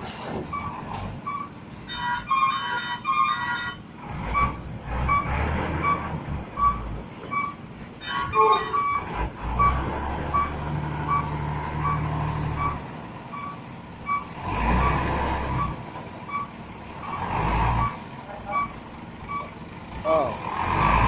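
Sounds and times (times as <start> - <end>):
diesel truck engine revving: 0.0 - 7.8, 8.7 - 21.0
reversing alarm beeping: 0.5 - 19.5.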